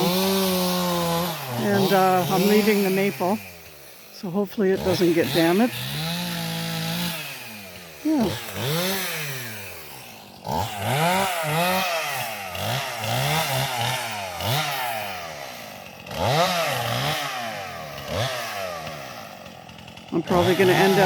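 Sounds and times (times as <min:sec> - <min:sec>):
chainsaw engine revving: 0:00.0 - 0:21.0.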